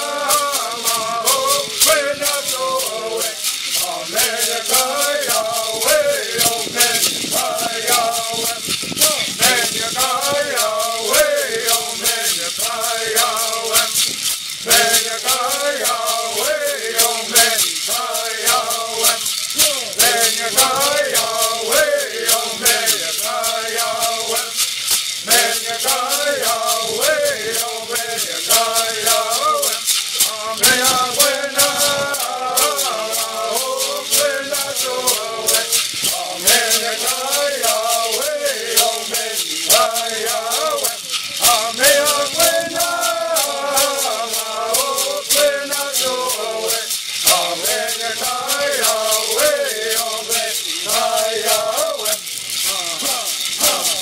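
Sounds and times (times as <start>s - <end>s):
gourd rattles shaking: 0.0s - 54.0s
men singing: 0.0s - 54.0s.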